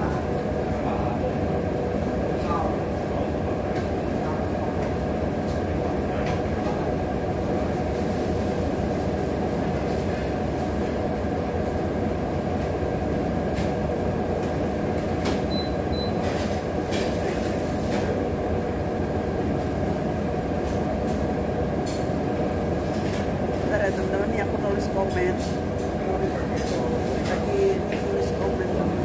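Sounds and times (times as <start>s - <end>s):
restaurant room noise rumble: 0.0s - 29.0s.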